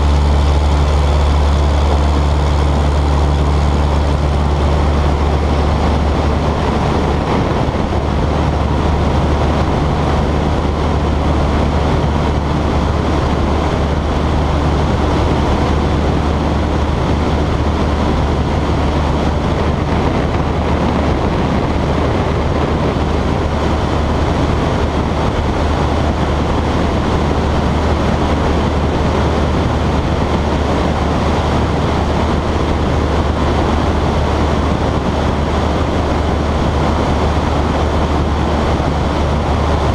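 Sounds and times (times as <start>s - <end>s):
propeller plane engine drone: 0.0s - 39.9s
rush of air: 0.0s - 39.9s.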